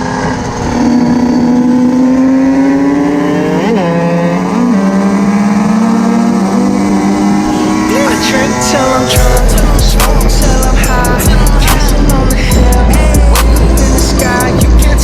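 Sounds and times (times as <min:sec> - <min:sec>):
motorcycle engines revving high: 0:00.0 - 0:15.0.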